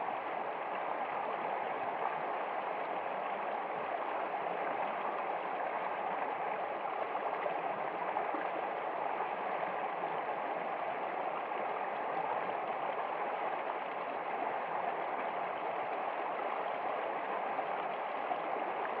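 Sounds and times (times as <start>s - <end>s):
stream flowing over stones: 0.0s - 19.0s.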